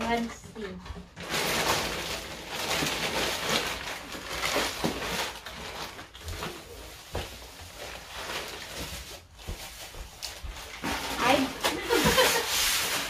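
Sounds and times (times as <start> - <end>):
wrapping paper rustling and tearing: 1.2 - 13.0.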